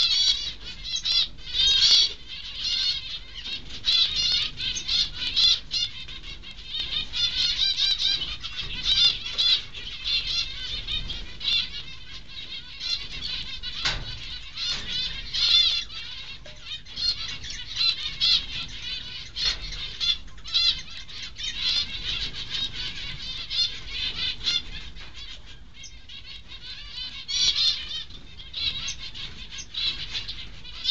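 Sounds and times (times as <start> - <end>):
finches chittering: 0.0 - 30.9.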